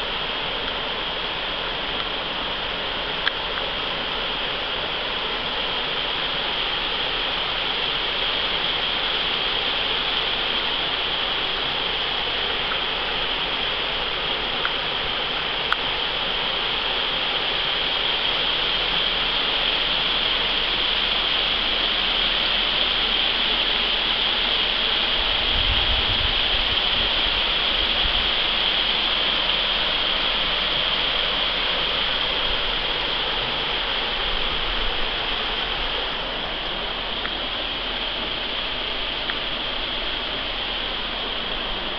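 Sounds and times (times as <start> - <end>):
water rushing over rocks: 0.0 - 41.9.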